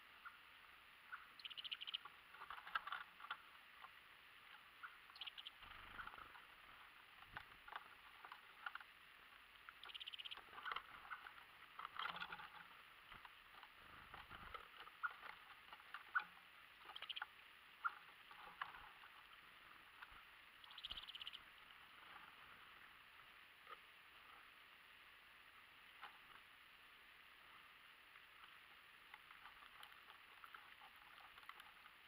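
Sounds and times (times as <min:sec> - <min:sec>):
birds pecking on wooden tray: 0:01.4 - 0:23.9, 0:27.9 - 0:32.0.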